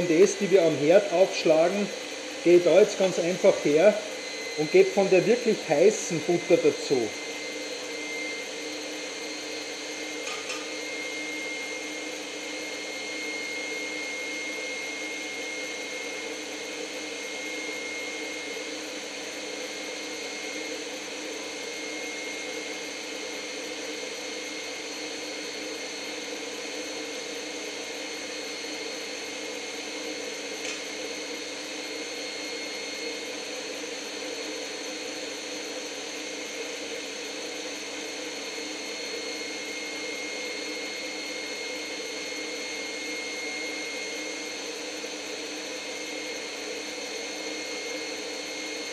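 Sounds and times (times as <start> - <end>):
stand mixer motor whining: 0.0 - 48.9.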